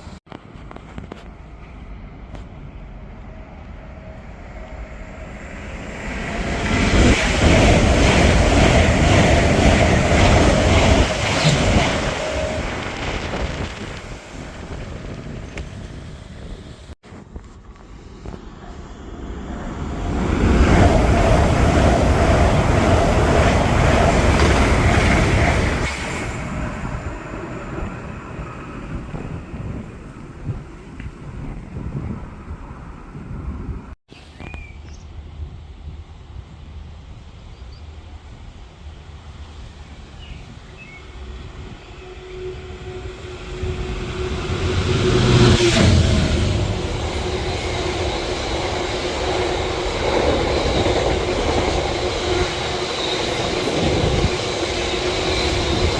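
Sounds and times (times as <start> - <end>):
train passing at speed: 0.0 - 34.0, 35.1 - 55.9.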